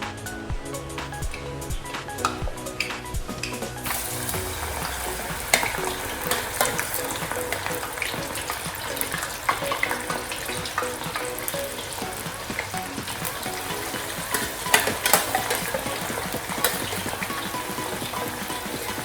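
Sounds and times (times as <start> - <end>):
plantain deep-frying in oil: 2.2 - 19.0.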